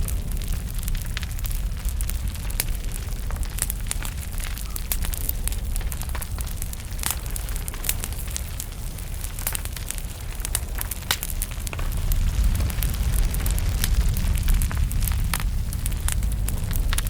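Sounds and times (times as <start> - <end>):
low rumble of flames: 0.0 - 17.0
wood fire pops and snaps: 0.0 - 17.0.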